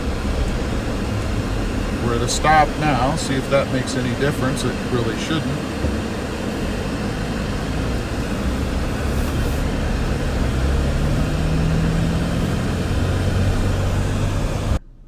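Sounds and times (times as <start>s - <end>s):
air conditioning fan rushing: 0.0s - 14.8s
road noise: 0.0s - 15.0s
truck engine accelerating: 0.0s - 15.0s.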